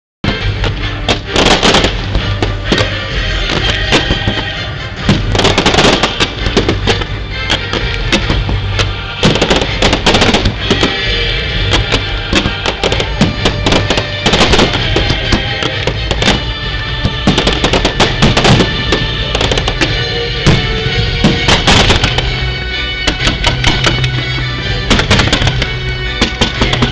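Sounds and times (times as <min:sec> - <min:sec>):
fireworks banging and crackling: 0:00.2 - 0:26.9
loud music playing: 0:00.2 - 0:26.9.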